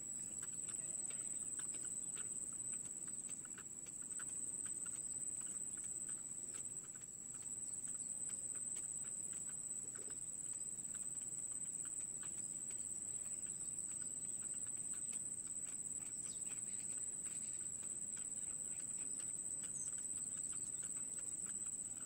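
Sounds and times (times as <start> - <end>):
bird chicks ticking calls: 0.0 - 22.0.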